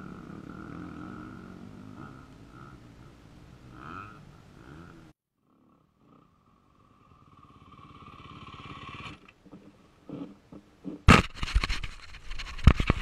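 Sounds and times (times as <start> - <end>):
dirt bike engine at low revs: 0.0 - 11.4.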